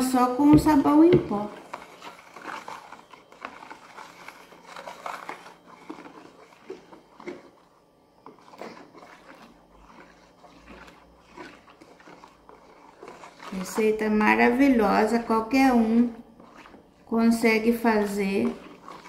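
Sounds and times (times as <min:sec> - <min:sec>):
stick scraping plastic basin: 0:00.0 - 0:19.0
stick stirring foamy liquid: 0:00.0 - 0:19.0.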